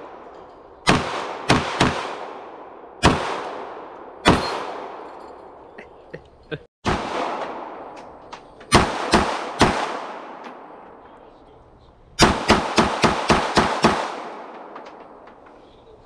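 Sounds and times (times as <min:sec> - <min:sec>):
echoing gunshots: 0:00.0 - 0:05.7, 0:06.8 - 0:11.5, 0:12.2 - 0:15.3.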